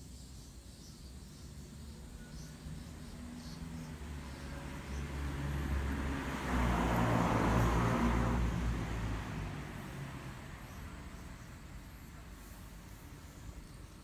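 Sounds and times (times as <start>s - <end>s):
vehicle passing by: 1.5s - 14.0s.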